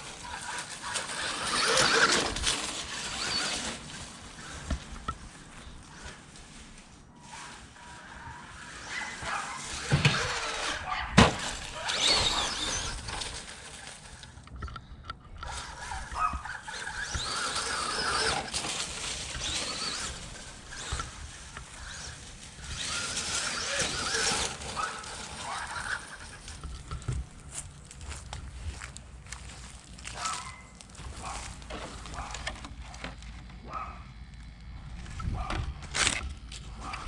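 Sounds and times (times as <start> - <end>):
electric motor whining: 0.0 - 6.6, 7.2 - 14.8, 15.4 - 33.5.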